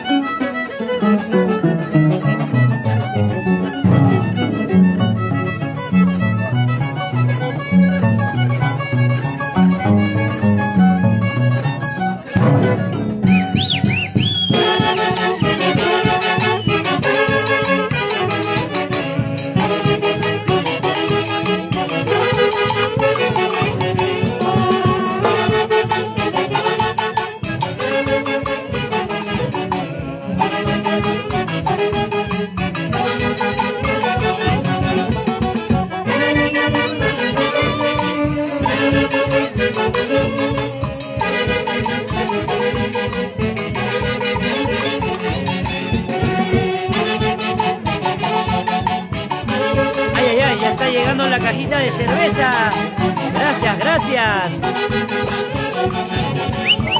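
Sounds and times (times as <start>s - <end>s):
live band playing dance music: 0.0s - 56.9s.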